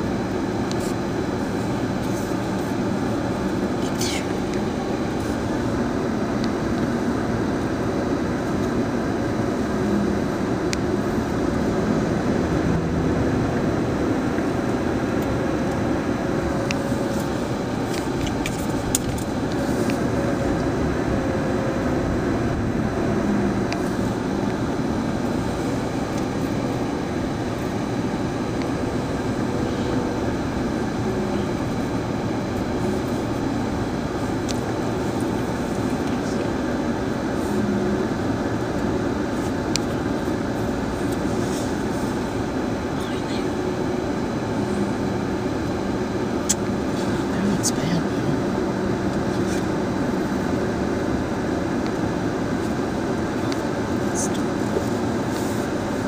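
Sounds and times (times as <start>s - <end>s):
car driving interior rumble: 0.0s - 56.0s.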